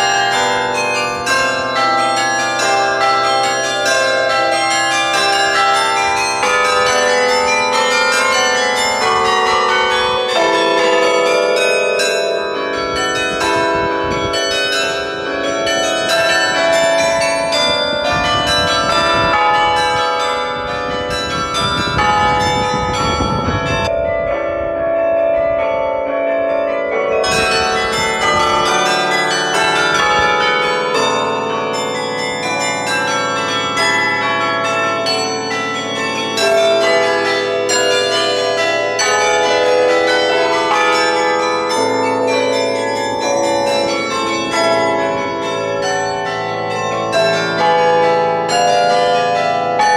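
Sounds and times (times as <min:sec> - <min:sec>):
carillon bells playing melody: 0:00.0 - 0:49.9.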